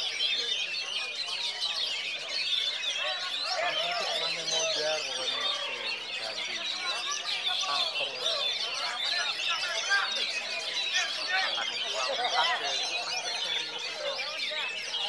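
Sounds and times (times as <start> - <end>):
other birdsong: 0.0 - 15.0.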